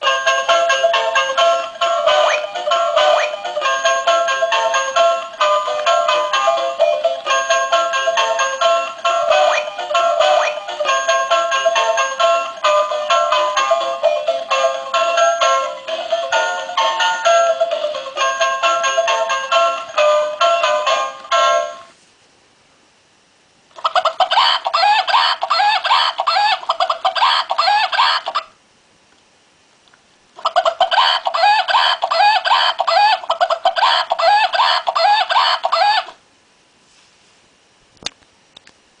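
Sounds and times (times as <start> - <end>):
toy chicken clucking: 0.0 - 21.8, 23.7 - 28.6, 30.4 - 36.2.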